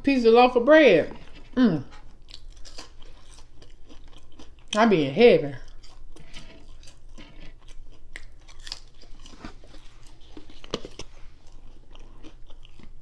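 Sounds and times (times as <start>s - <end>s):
chewing with wet smacks and crunches: 1.1s - 13.0s.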